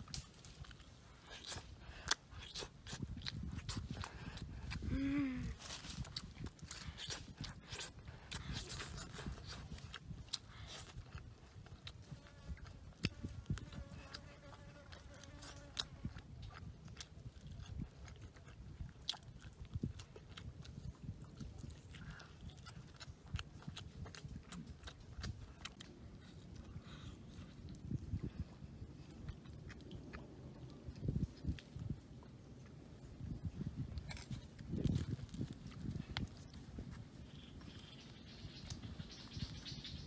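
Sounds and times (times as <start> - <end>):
person chewing fish: 0.0 - 38.9.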